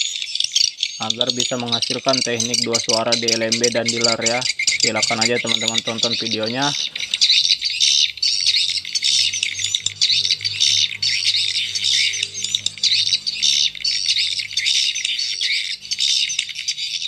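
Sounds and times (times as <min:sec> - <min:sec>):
swiftlet twittering and chirping: 0:00.0 - 0:17.0.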